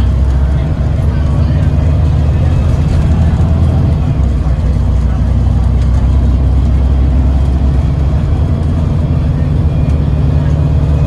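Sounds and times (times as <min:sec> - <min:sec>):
bus engine and road noise drone: 0:00.0 - 0:11.0.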